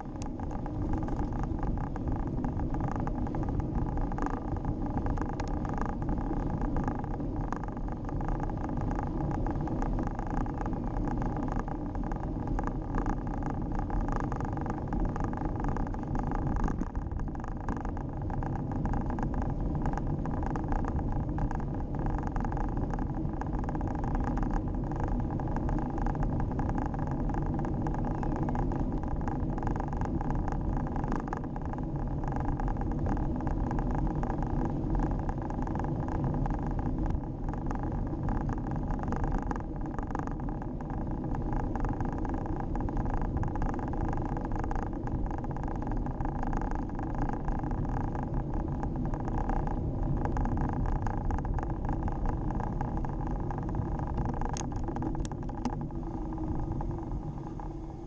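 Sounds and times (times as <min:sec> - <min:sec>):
bike tyres rumbling on tarmac: 0:00.0 - 0:58.0
wind on microphone: 0:00.0 - 0:58.0.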